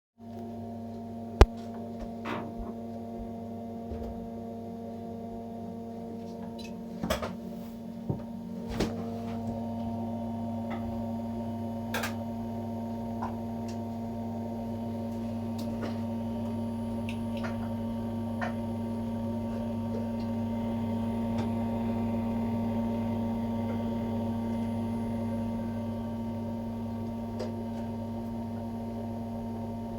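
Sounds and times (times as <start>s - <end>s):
boiler fan humming: 0.2s - 29.9s.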